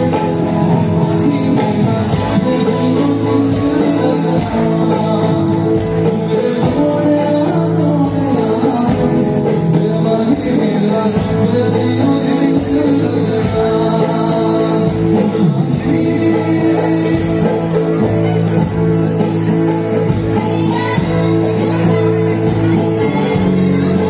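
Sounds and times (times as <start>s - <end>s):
electric guitar: 0.0s - 24.0s
keyboards: 0.0s - 24.0s
person singing: 0.0s - 24.0s.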